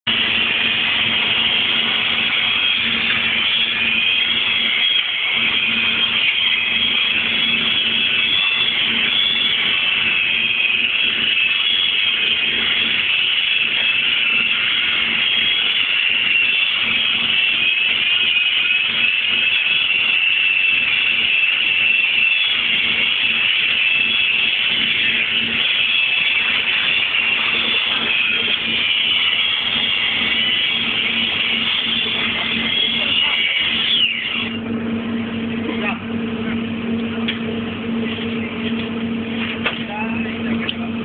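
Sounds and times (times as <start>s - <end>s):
low hum: 0.1s - 18.1s, 22.6s - 41.0s
welding arc crackling: 0.1s - 41.0s.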